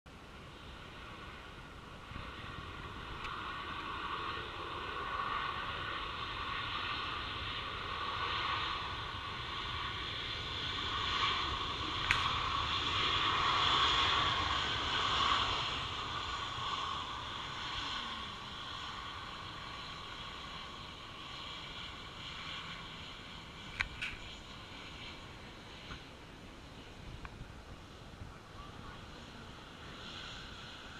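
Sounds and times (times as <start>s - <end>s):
jet engines roaring past: 0.1s - 30.9s.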